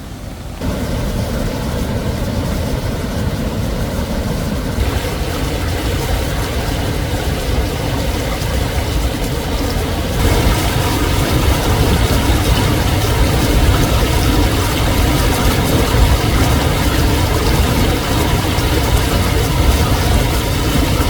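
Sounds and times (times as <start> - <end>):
engine rumbling: 0.0 - 21.0.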